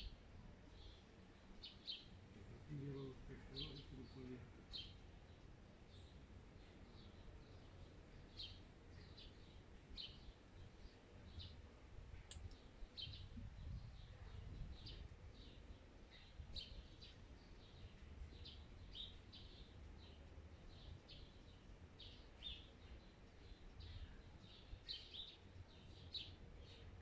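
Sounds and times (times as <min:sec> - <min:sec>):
sparrow chirping: 0:00.7 - 0:11.6, 0:12.5 - 0:27.0.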